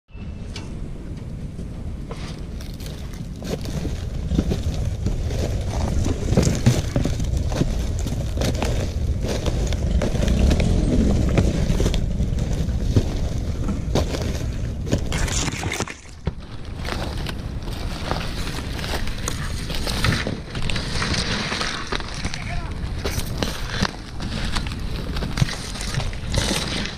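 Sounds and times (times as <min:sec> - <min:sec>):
steady low rumble: 0:00.1 - 0:26.9
rope and boots scraping palm trunk: 0:02.1 - 0:26.9.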